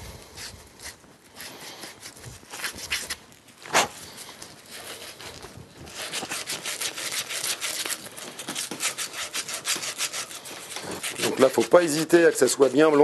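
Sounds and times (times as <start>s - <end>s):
emery cloth scraping copper pipe: 0.0s - 13.0s.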